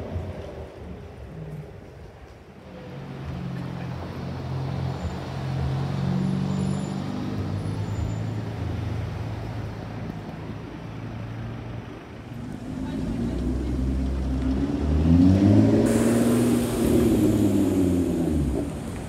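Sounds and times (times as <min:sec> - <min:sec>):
street traffic: 0:00.0 - 0:19.0
car engine pulling away: 0:02.7 - 0:19.0.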